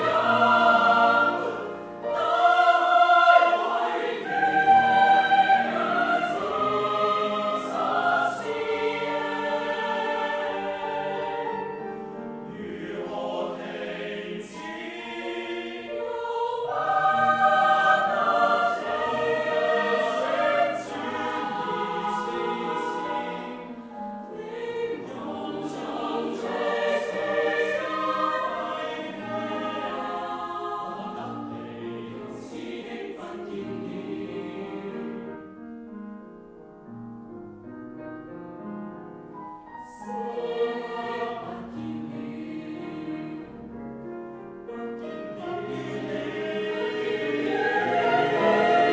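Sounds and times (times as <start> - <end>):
choir singing: 0.0 - 35.6, 39.6 - 43.9, 44.6 - 48.9.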